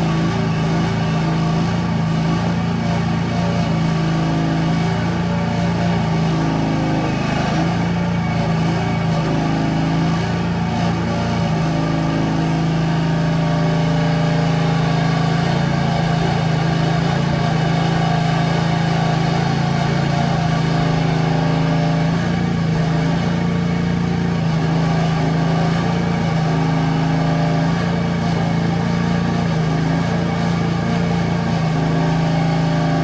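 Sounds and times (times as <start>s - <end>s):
excavator engine running: 0.0s - 33.0s.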